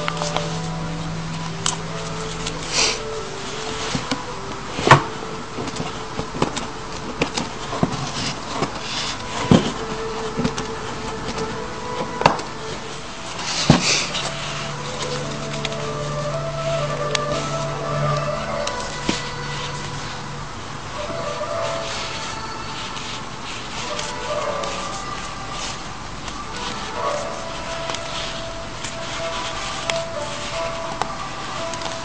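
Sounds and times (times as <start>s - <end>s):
paper crinkling and rustling: 0.0s - 20.3s, 21.0s - 32.0s.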